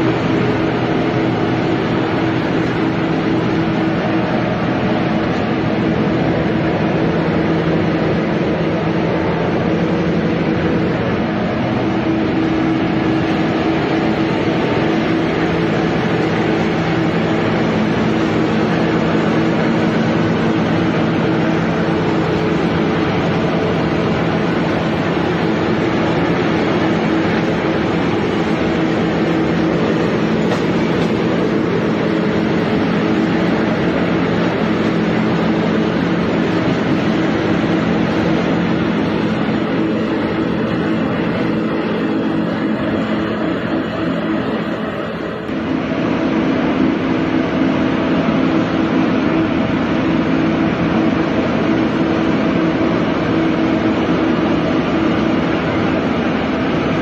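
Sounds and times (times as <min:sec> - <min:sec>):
machinery mechanical drone: 0:00.0 - 0:57.0.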